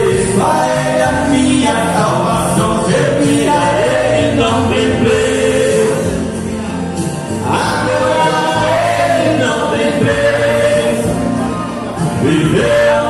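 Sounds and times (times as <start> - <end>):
man singing gospel: 0.0 - 6.3, 7.3 - 11.3, 12.0 - 13.0
instrumental accompaniment: 0.0 - 13.0.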